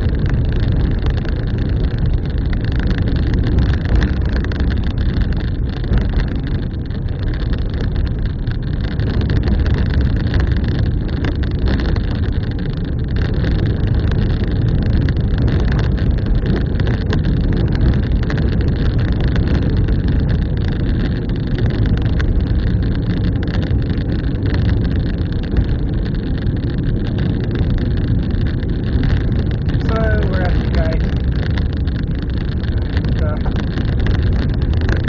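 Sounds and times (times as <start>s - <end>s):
small clicks and rattles: 0.0s - 35.0s
vehicle engine and road noise: 0.0s - 35.0s.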